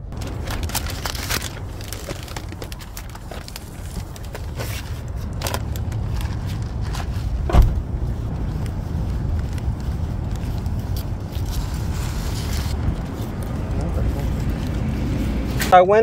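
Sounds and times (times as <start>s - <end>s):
plastic bag rustling: 0.1s - 13.7s.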